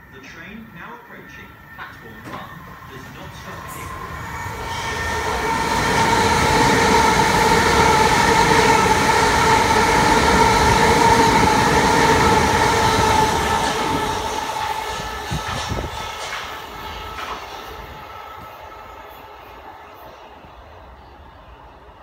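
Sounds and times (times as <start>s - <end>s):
passenger train passing with whine: 0.0s - 22.0s.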